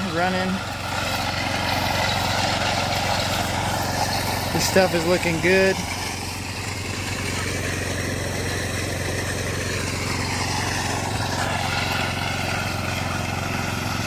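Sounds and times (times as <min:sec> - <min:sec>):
power trowel engine droning: 0:00.0 - 0:14.0.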